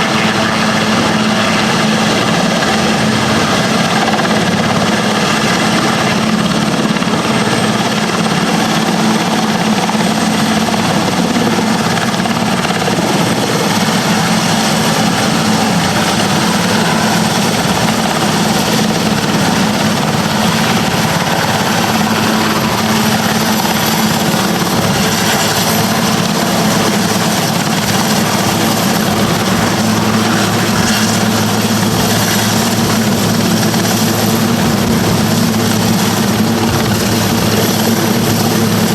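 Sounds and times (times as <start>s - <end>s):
helicopter overhead: 0.0s - 38.9s.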